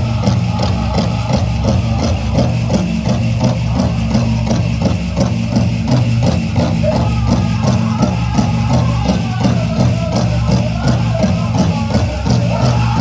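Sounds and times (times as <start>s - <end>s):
big drum steady fast beat: 0.0s - 13.0s
group singing: 0.0s - 13.0s.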